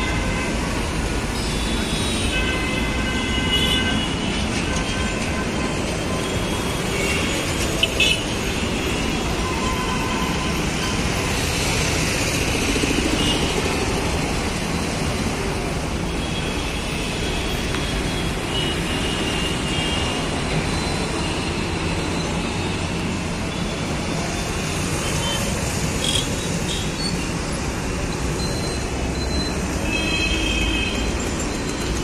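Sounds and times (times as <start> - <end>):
cars and trucks passing: 0.0 - 32.0.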